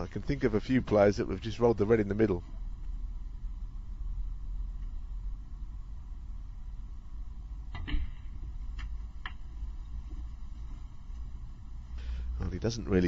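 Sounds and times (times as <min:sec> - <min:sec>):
low arena hum: 0:00.0 - 0:13.0.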